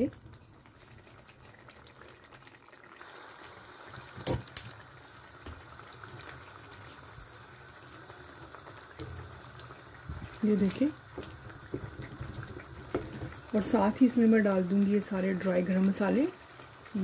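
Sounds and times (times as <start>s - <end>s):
meat frying and bubbling in oil: 0.0s - 17.0s.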